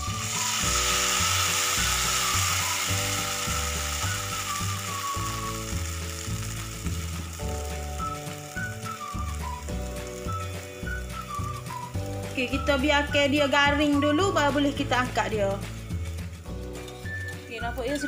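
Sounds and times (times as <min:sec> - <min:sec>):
batter sizzling in hot pan: 0:00.0 - 0:18.0.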